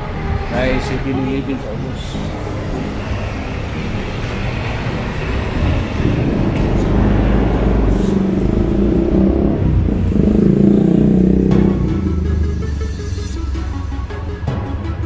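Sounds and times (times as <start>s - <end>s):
vehicles passing close by: 0.0s - 15.0s.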